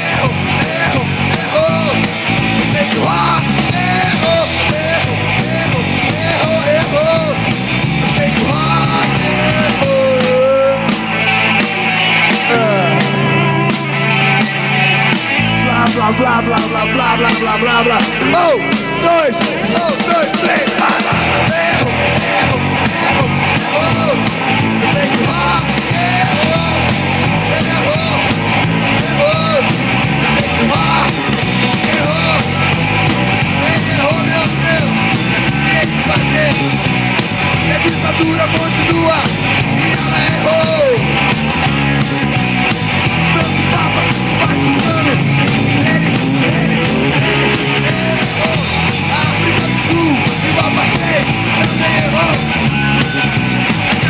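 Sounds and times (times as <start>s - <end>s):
drums and cymbals: 0.0s - 54.0s
electric guitar bending notes: 0.0s - 54.0s.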